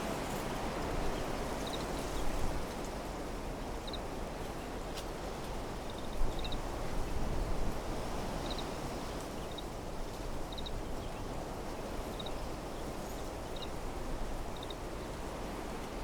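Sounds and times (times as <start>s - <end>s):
wind rustling leaves in trees: 0.0s - 16.0s.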